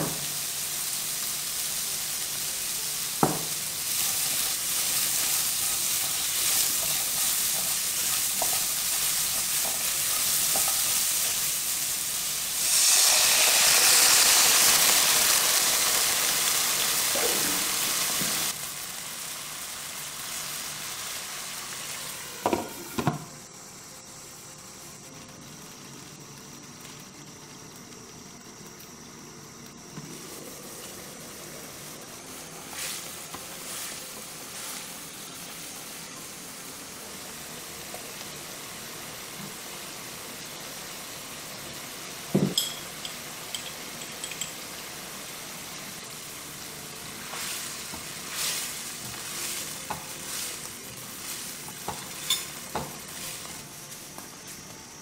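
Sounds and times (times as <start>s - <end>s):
vegetables sizzling in a frying pan: 0.0s - 55.0s.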